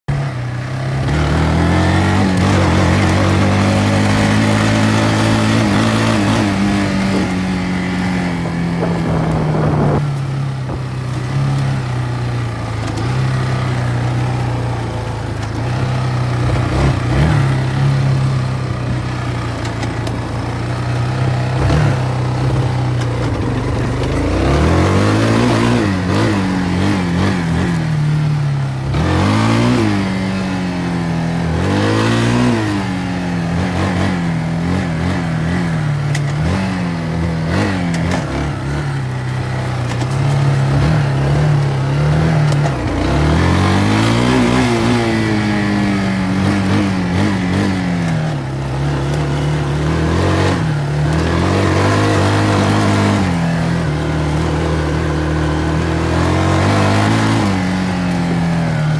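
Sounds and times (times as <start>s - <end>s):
atv engine revving: 0.0s - 58.9s.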